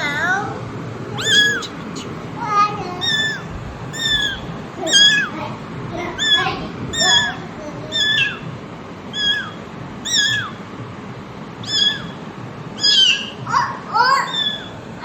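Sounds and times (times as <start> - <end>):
kitten mewing: 1.1 - 5.4, 6.0 - 10.7, 11.6 - 15.0.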